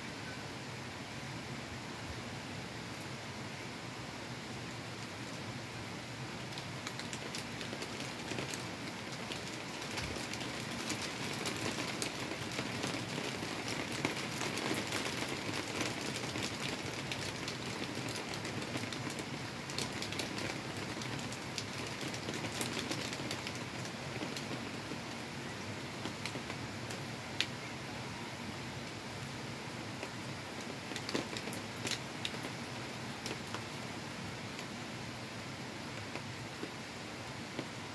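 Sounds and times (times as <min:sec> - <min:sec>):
heavy rain splashing on railing: 0:04.8 - 0:27.6, 0:29.8 - 0:37.9.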